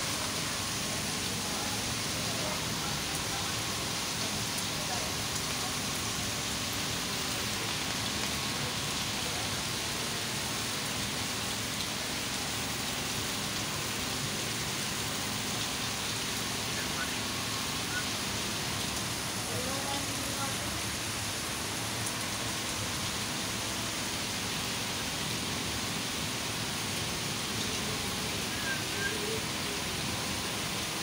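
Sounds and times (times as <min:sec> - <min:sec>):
rain pouring: 0:00.0 - 0:31.0.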